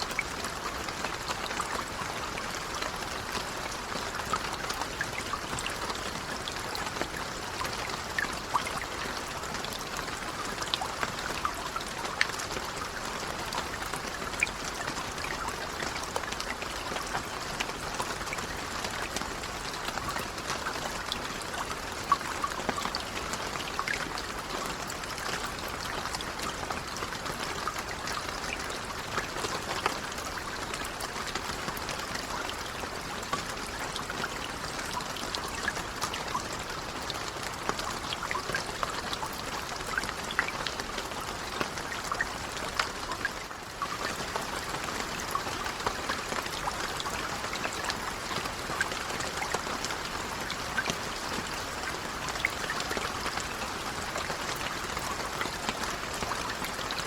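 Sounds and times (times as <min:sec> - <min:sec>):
gentle rain falling: 0:00.0 - 0:57.0
raindrops pattering and ticking: 0:00.0 - 0:57.0.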